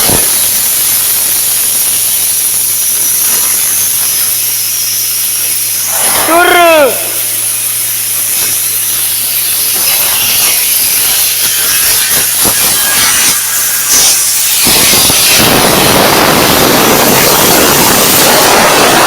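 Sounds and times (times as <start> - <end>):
arc gouging noise: 0.0 - 19.0
compressed air hissing: 0.0 - 19.0.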